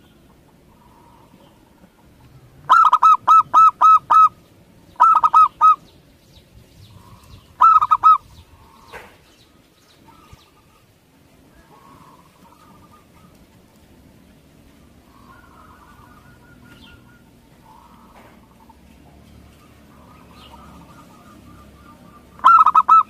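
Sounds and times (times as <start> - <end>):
dove cooing: 0.0 - 4.4, 5.0 - 5.8, 6.9 - 9.2, 10.0 - 13.7, 14.6 - 23.0.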